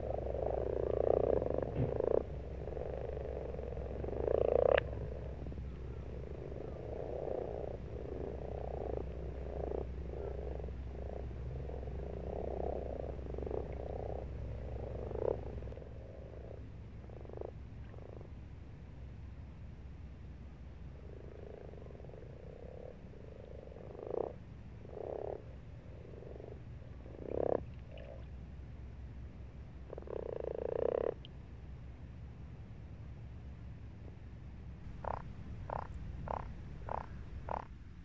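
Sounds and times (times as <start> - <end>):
frogs croaking: 0.0 - 18.4, 20.8 - 28.4, 29.8 - 31.3, 34.9 - 37.8.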